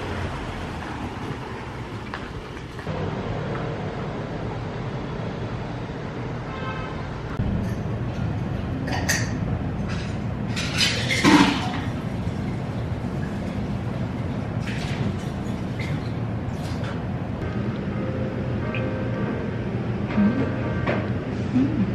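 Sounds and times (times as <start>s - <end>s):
low cafe rumble: 0.0s - 21.9s.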